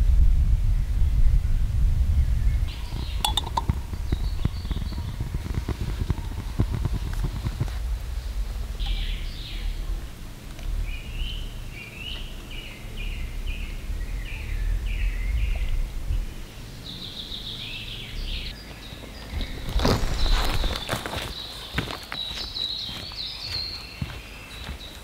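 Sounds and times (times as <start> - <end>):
low outdoor rumble: 0.0 - 21.8
small bird chirping: 2.3 - 25.0.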